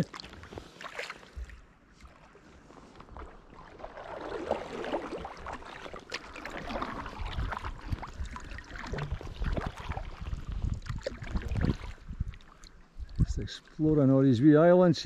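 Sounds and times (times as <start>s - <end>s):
kayak paddle splashing: 0.0s - 13.8s.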